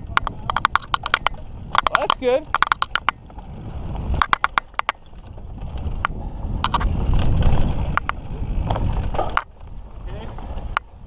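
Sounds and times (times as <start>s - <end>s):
bike rattles and clicks: 0.0s - 11.0s
bike tyres rumbling on dirt: 0.0s - 11.0s
wind: 0.0s - 11.0s.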